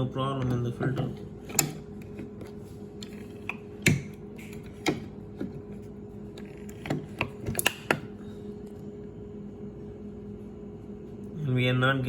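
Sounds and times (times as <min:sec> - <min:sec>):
refrigerator hum: 0:00.0 - 0:12.0.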